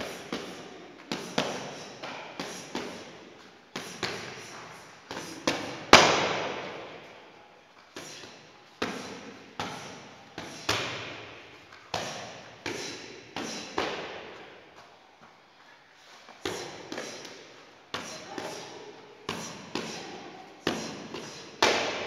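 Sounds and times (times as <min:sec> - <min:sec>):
boxing gloves smacking mitts: 0:00.0 - 0:03.2, 0:03.8 - 0:07.0, 0:08.0 - 0:14.6, 0:16.4 - 0:22.0.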